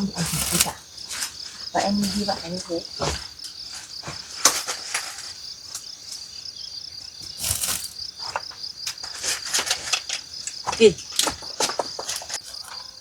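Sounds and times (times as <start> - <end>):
sharp crackles and knocks: 0.0 - 6.3, 7.0 - 12.9
crickets chirping: 0.0 - 13.0.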